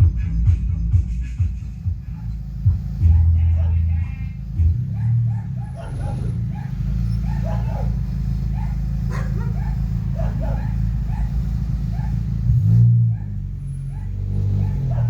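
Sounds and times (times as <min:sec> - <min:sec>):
deep bass rumble: 0:00.0 - 0:15.0
dog barking and yipping: 0:02.0 - 0:15.0.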